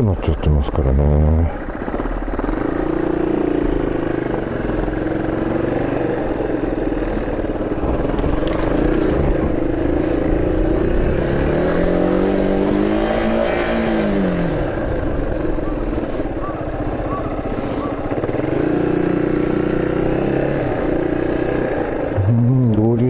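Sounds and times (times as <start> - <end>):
vehicle engine running: 0.0 - 13.0, 13.8 - 23.0.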